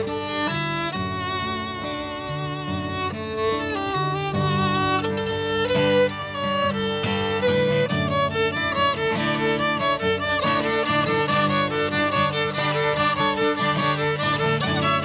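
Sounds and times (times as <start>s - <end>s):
strummed acoustic guitar: 0.0s - 15.0s
violin melody: 0.0s - 15.0s.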